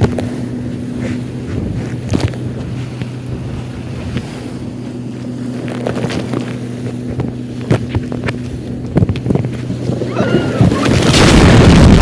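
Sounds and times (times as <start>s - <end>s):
motorboat engine running: 0.0s - 12.0s
water splashing against hull: 0.0s - 12.0s
wind buffeting microphone: 0.0s - 12.0s.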